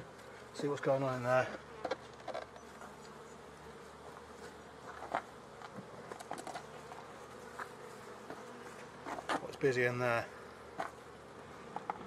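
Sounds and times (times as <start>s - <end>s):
honey bees humming: 0.0s - 12.0s.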